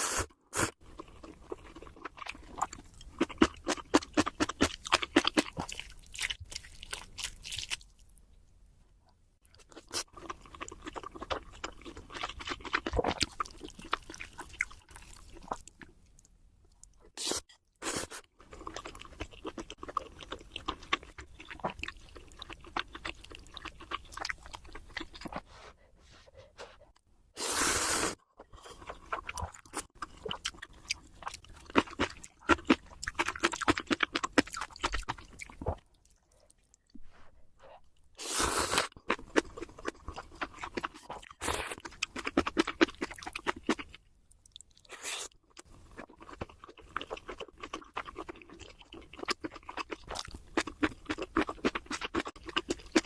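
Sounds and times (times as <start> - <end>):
person chewing crunchy food: 0.6 - 8.0, 9.5 - 16.2, 17.8 - 25.8, 27.9 - 36.9, 37.7 - 53.0.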